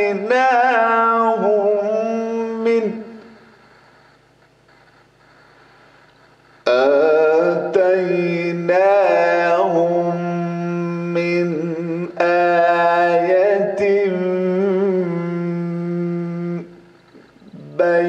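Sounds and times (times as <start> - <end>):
man chanting melodically: 0.0 - 3.4, 6.7 - 18.0.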